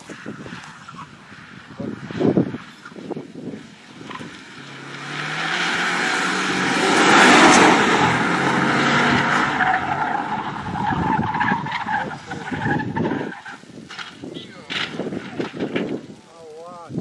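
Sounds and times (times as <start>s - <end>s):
rally car engine driving hard: 0.0s - 16.0s
tyres on gravel: 0.0s - 17.0s.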